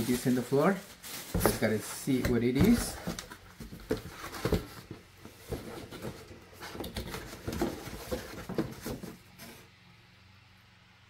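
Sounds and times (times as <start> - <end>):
cardboard box rustling and scraping: 0.0 - 9.7.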